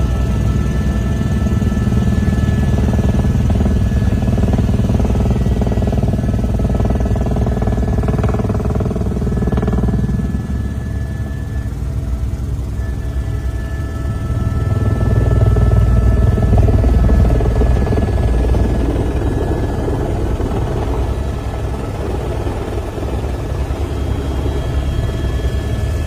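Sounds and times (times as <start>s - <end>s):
aircraft engines droning in cabin: 0.0s - 26.0s.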